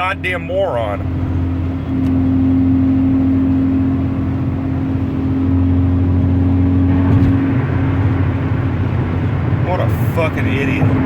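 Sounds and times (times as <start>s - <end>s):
car interior road drone: 0.0s - 11.0s.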